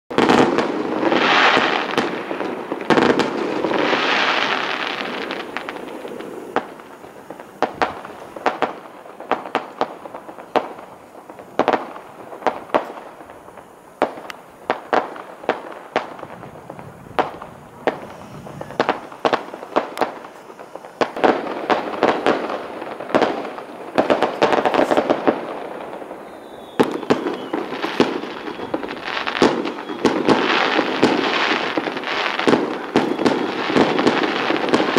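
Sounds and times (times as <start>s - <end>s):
firework shells bursting: 0.1s - 34.9s.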